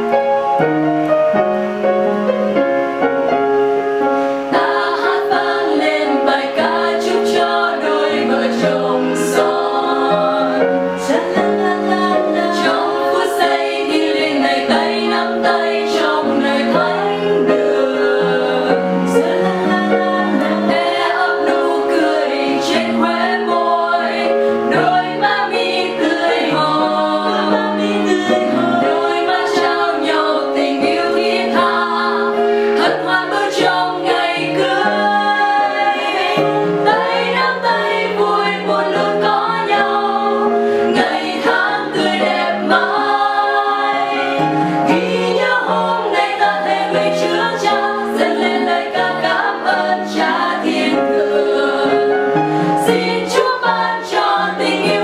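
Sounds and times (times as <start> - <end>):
upright piano: 0.0 - 55.0
women singing together: 4.4 - 55.0.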